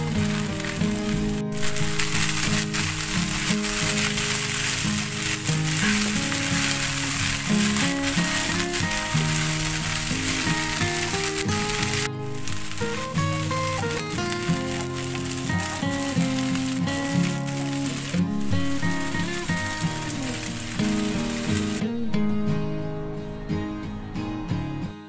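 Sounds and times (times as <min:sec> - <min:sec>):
food sizzling in a wok: 0:00.0 - 0:22.8
background music: 0:00.0 - 0:25.0.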